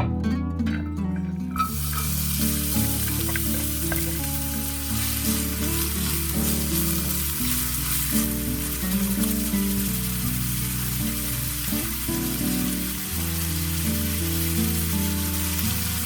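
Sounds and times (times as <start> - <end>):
background music: 0.0 - 16.0
food sizzling in hot oil: 1.5 - 16.0.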